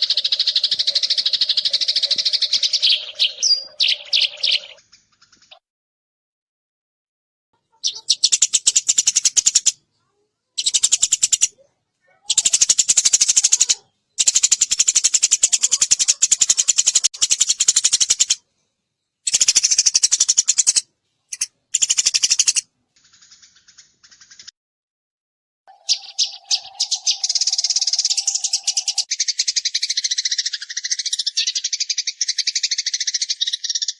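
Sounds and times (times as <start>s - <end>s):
sparrow chattering sharp chirps: 0.0s - 5.6s, 7.6s - 18.4s, 19.2s - 24.5s, 25.7s - 33.9s.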